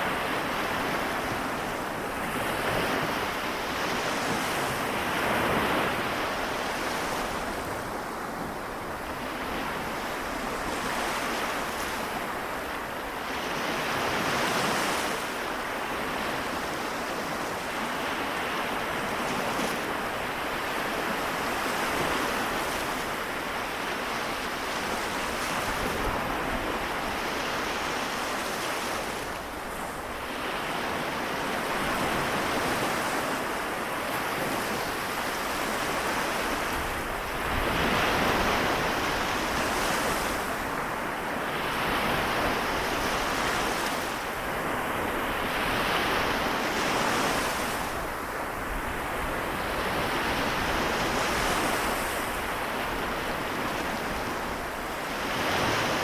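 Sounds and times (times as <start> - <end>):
small waves washing onto shore: 0.0 - 56.0.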